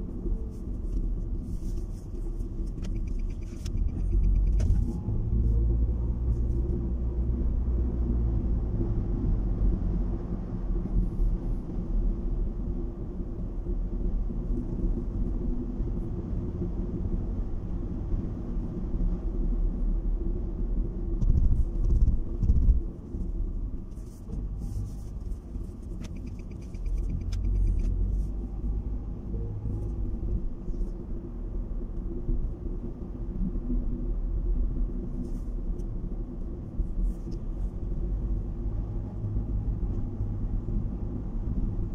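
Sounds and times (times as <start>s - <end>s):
car cabin engine and road rumble: 0.0s - 41.9s.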